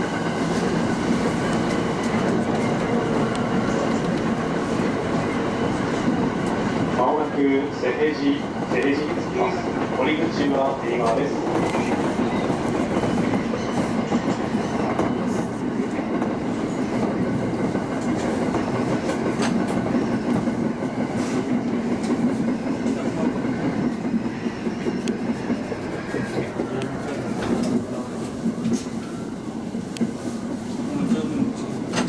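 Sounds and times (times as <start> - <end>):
train rumbling on track: 0.0 - 32.0.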